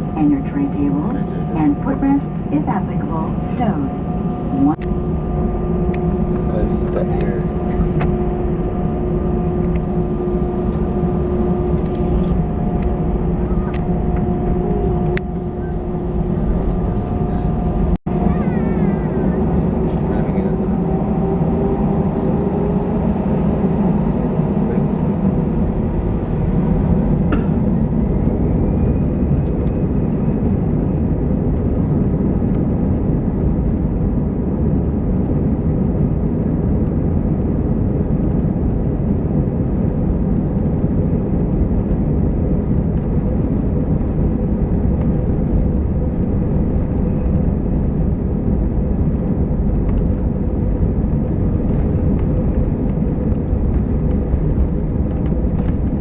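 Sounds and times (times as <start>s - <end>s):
faint hum: 0.0s - 56.0s
jet engine rumble in cabin: 0.0s - 56.0s.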